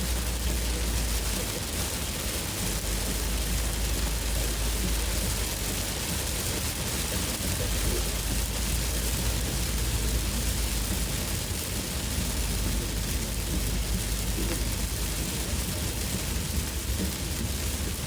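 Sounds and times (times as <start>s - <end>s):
car rumbling on wet road: 0.0s - 18.0s
heavy rain on car: 0.0s - 18.0s.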